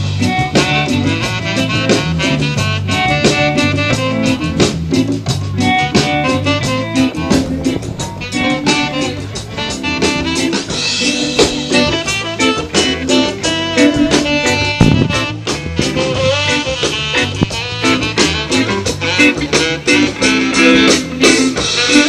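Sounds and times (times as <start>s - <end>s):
drum-kit beat: 0.0s - 22.0s
guitar: 0.0s - 22.0s
saxophone: 0.0s - 22.0s.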